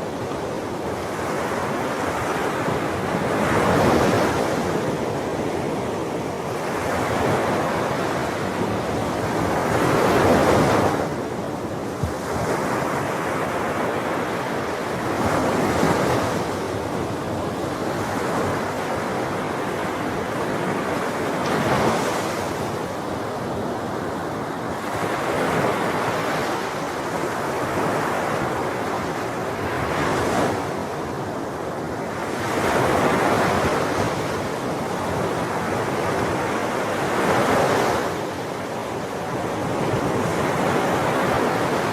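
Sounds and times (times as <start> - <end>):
sea waves breaking: 0.0 - 41.9.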